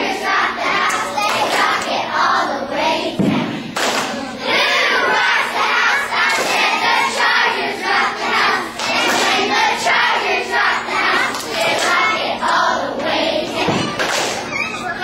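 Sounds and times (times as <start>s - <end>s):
girls chanting a cheer: 0.0s - 14.8s.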